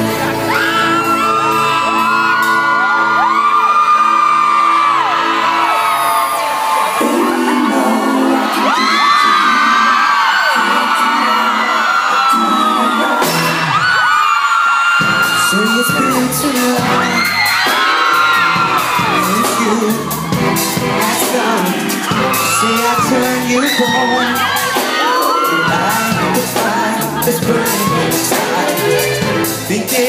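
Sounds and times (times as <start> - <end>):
fans screaming and whooping: 0.0 - 30.0
live pop dance music: 0.0 - 30.0.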